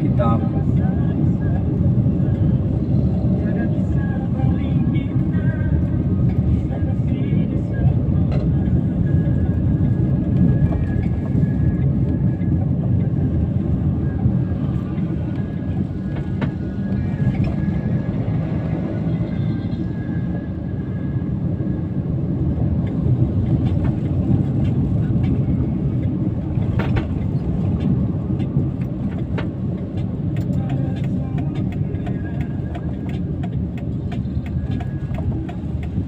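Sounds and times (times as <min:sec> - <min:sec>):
car engine and tyres on wet road: 0:00.0 - 0:36.0.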